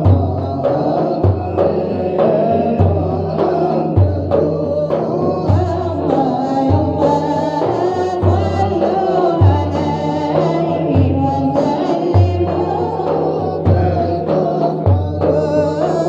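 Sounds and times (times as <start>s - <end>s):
deep regular beat: 0.0s - 16.0s
men singing devotional song: 0.0s - 16.0s.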